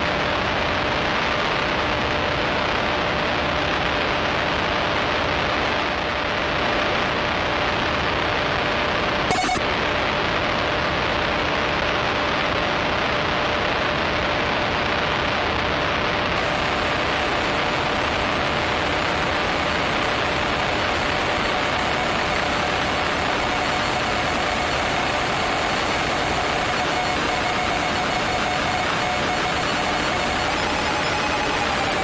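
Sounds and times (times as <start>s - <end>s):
distorted static noise wall: 0.0s - 32.0s.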